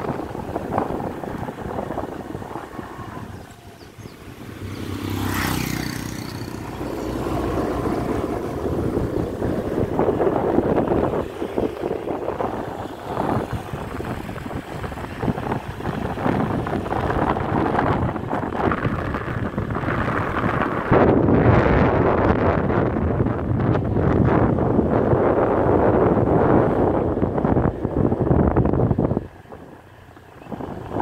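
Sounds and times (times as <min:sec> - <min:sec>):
motorcycle engine hum: 0:00.0 - 0:31.0
wind rushing over microphone: 0:00.0 - 0:31.0.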